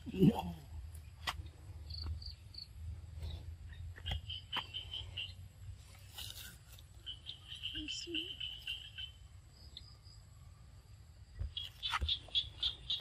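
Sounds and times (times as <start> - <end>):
insects chirping: 0.9 - 13.0.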